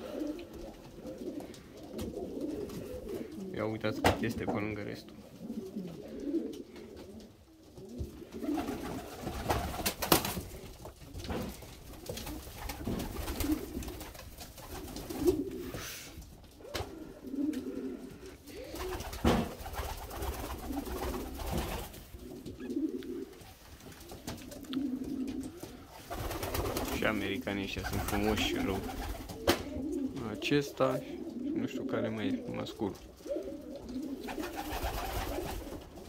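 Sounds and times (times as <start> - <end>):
pigeons cooing: 0.0 - 36.0.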